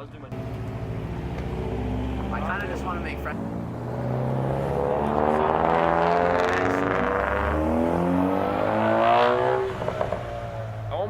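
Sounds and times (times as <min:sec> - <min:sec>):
car engine revving: 0:00.3 - 0:11.0.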